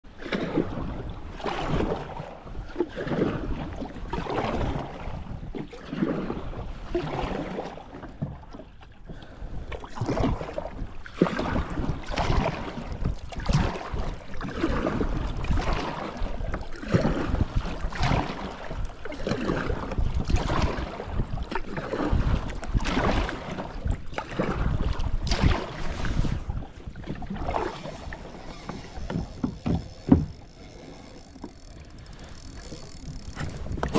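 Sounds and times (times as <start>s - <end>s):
kayak paddle splashing in water: 0.1s - 33.9s
wind rumble on microphone: 0.2s - 8.6s, 9.3s - 31.3s, 31.9s - 33.9s.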